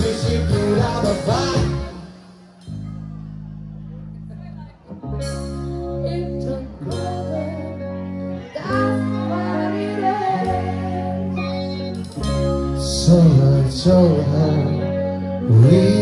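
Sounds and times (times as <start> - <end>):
live band playing pop music: 0.0 - 3.8, 4.4 - 16.0.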